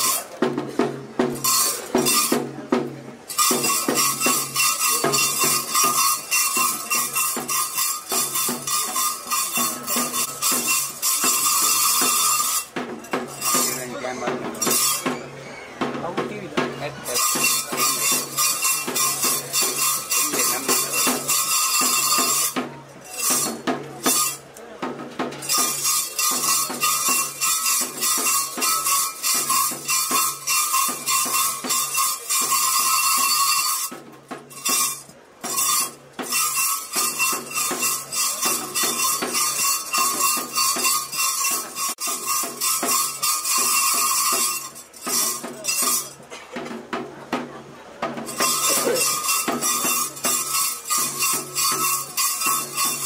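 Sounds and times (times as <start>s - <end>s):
fast drumming: 0.0s - 53.0s
jingling cymbals: 3.3s - 15.3s, 17.0s - 24.4s, 25.4s - 46.2s, 48.2s - 53.0s.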